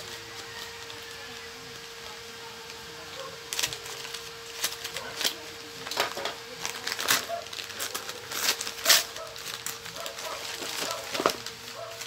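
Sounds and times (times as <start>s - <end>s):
paper crinkling rips: 0.0s - 12.0s.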